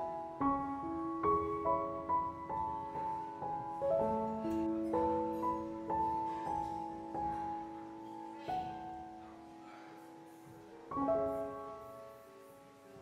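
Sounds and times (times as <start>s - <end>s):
gentle solo piano: 0.0s - 13.0s.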